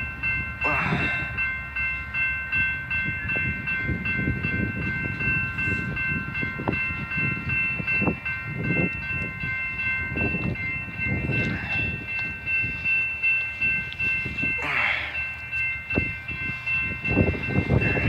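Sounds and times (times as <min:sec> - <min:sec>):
freight train rolling past: 0:00.0 - 0:18.0
high-pitched ringing tone: 0:00.0 - 0:18.0
wind buffeting microphone: 0:02.0 - 0:18.0.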